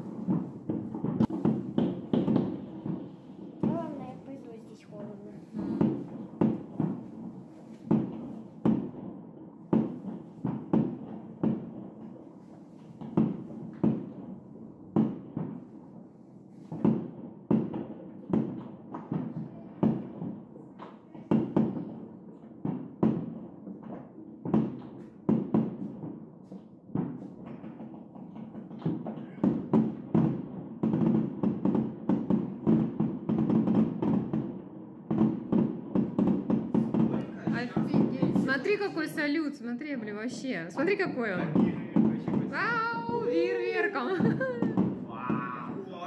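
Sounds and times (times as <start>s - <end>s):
muffled fireworks bangs: 0.0s - 46.0s.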